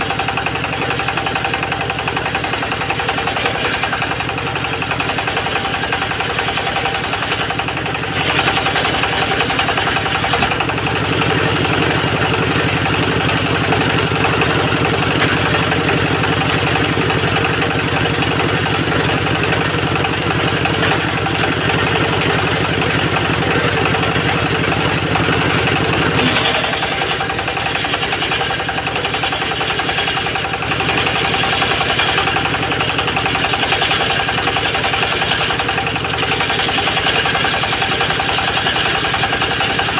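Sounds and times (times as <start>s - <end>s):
circular saw engine running: 0.0s - 39.9s.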